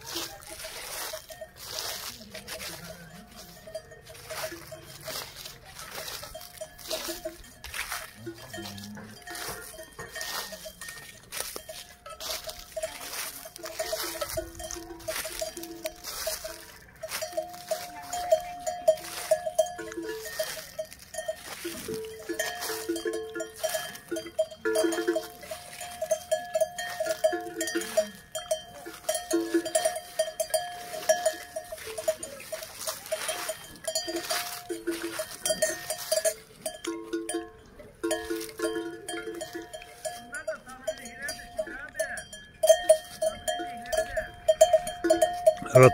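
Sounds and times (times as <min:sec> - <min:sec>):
cow bells clanking: 0:00.0 - 0:45.9.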